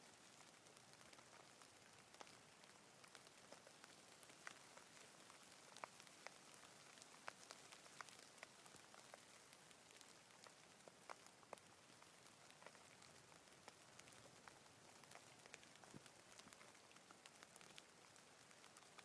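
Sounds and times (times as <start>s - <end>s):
light rain hiss: 0.0s - 19.0s
raindrops ticking: 0.0s - 19.0s.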